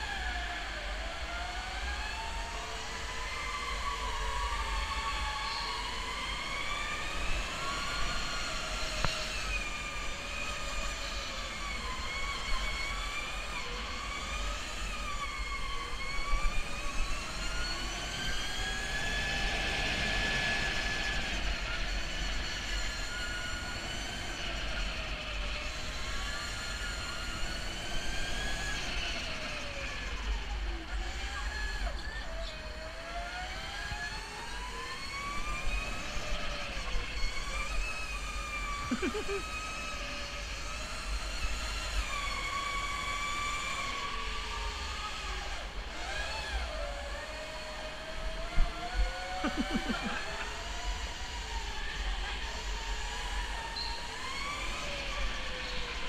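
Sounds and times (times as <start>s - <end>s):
electric go-kart motor whining: 0.0s - 56.0s
wind and tyres rumbling: 0.0s - 56.0s.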